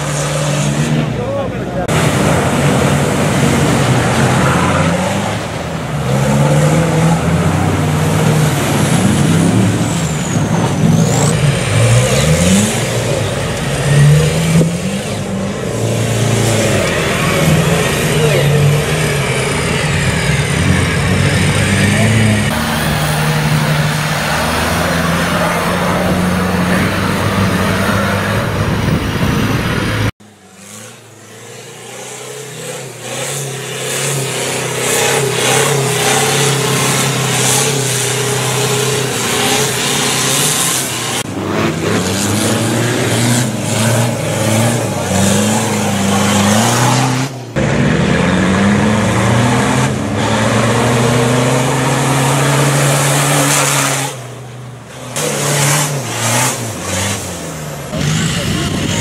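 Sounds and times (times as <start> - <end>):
off-road engines revving hard: 0.0 - 59.0.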